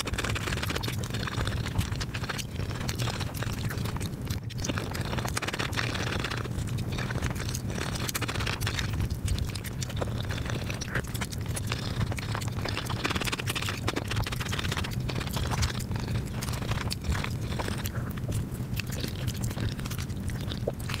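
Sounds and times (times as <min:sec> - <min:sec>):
rapid chewing and mouth clicks: 0:00.0 - 0:21.0
steady low hum: 0:00.0 - 0:21.0.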